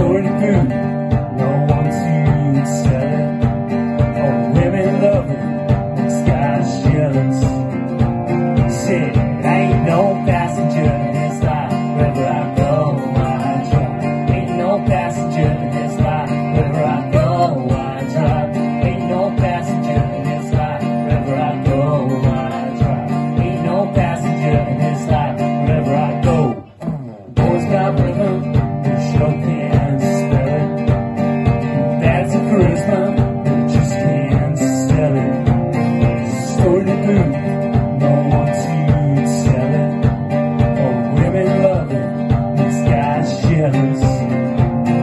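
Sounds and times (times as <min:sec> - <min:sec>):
acoustic guitars: 0:00.0 - 0:45.0
steady bass drum beat: 0:00.0 - 0:45.0.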